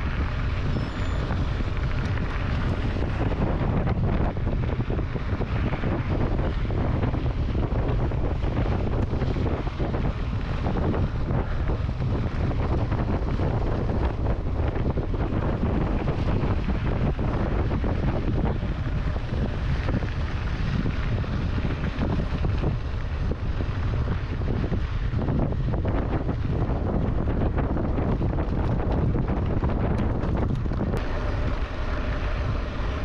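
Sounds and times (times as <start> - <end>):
bike tyres rolling on gravel: 0.0 - 33.0
wind rushing over microphone: 0.0 - 33.0.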